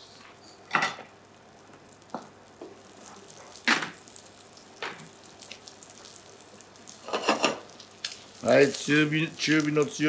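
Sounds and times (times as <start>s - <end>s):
chicken sizzling in butter: 0.0s - 10.0s
sharp crackles: 1.2s - 10.0s.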